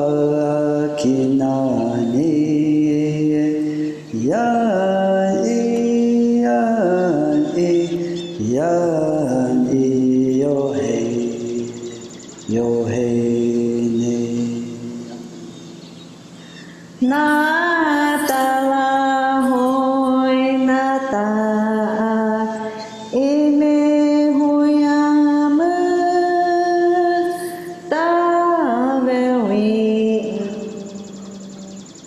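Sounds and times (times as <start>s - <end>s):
person singing long held notes: 0.0s - 15.5s, 16.8s - 31.0s.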